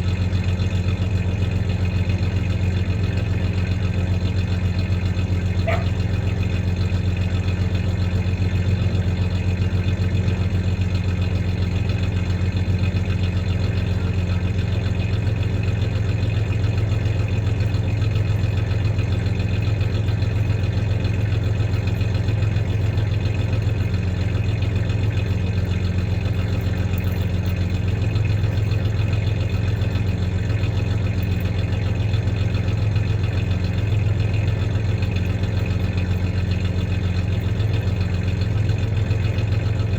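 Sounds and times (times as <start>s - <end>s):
engine idling with slight misfire: 0.0s - 39.9s.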